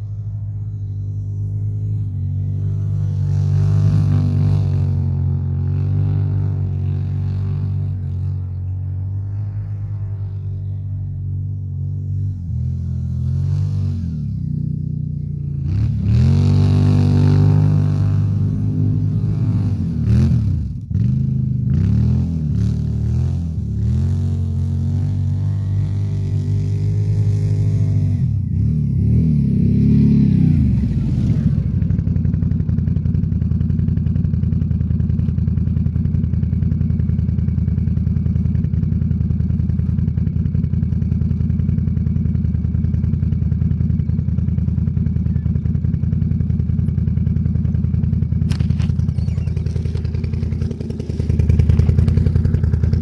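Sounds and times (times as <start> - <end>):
atv engine revving and idling: 0.0 - 53.0.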